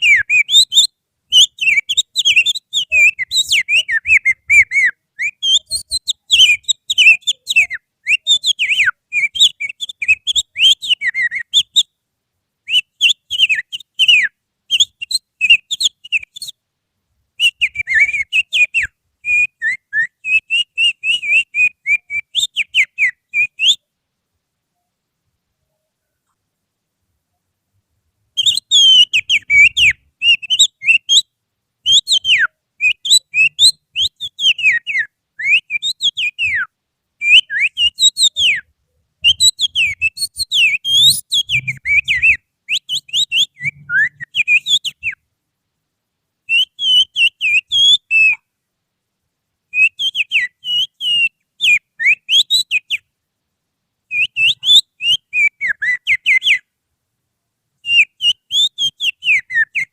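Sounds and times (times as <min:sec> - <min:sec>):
finger whistling birdsong: 0:00.0 - 0:11.9, 0:12.7 - 0:16.6, 0:17.4 - 0:23.8, 0:28.4 - 0:31.2, 0:31.9 - 0:45.2, 0:46.5 - 0:48.4, 0:49.8 - 0:53.1, 0:54.1 - 0:56.7, 0:57.8 - 0:59.9.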